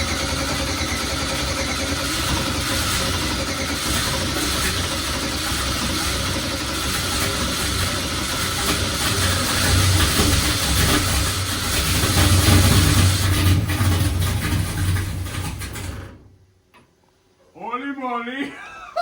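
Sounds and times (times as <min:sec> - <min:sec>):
car engine cranking on starter: 0:00.0 - 0:16.4.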